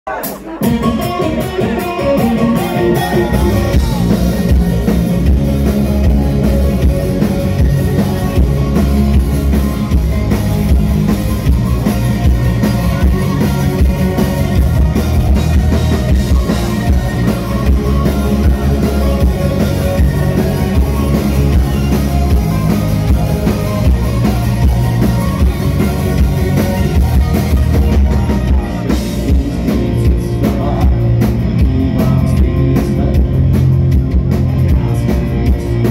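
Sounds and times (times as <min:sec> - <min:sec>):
rock band playing: 0:00.1 - 0:35.9.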